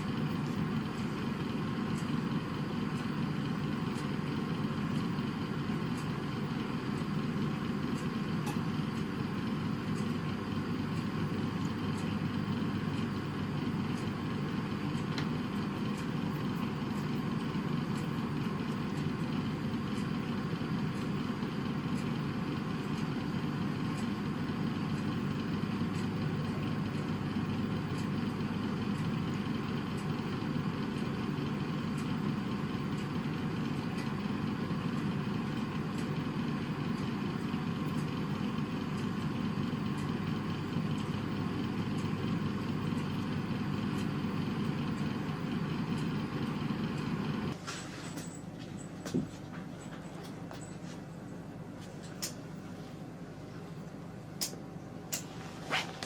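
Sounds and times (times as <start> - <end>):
low mechanical rumble: 0.0 - 56.0.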